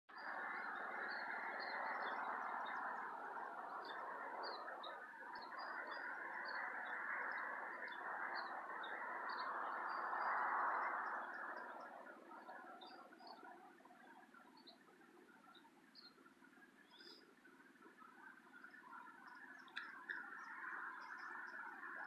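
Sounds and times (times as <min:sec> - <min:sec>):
small songbirds chirping: 0:00.1 - 0:22.0
steady rushing noise: 0:00.1 - 0:22.0.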